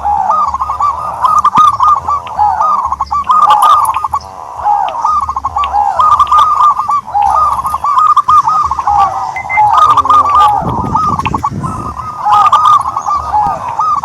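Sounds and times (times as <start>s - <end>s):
bird calling: 0.0s - 14.0s.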